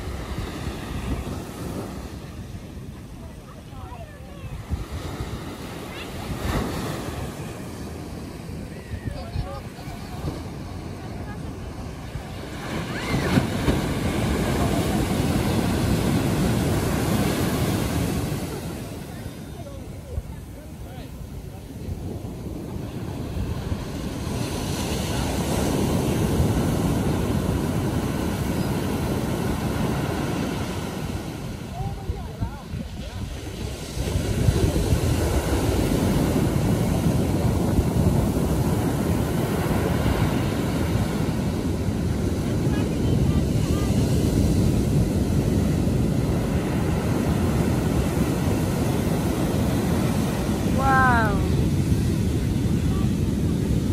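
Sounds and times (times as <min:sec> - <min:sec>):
ocean waves breaking: 0:00.0 - 0:53.9
wind rumbling on microphone: 0:00.0 - 0:53.9.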